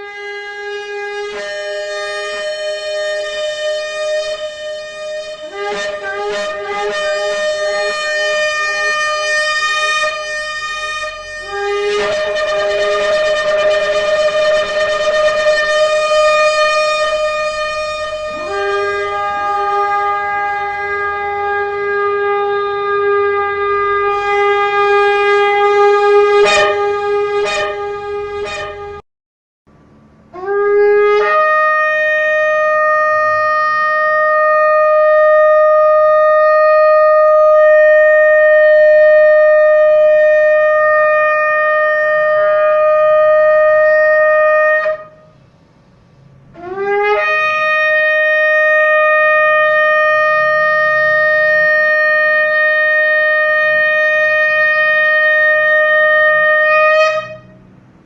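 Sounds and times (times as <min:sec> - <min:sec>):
shofar blasts: 0:00.0 - 0:29.0, 0:30.3 - 0:45.4, 0:46.6 - 0:57.6.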